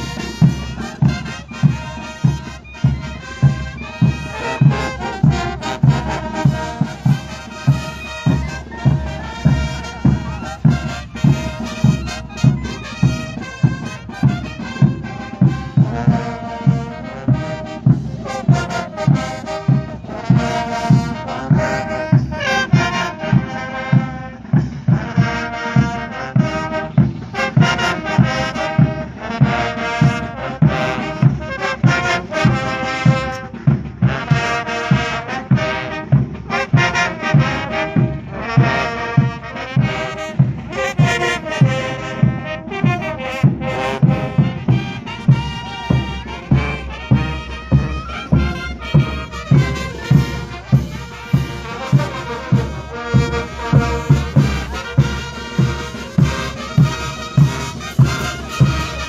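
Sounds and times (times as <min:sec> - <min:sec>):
brass band music: 0:00.0 - 0:59.0
steady drum beat: 0:00.0 - 0:59.0.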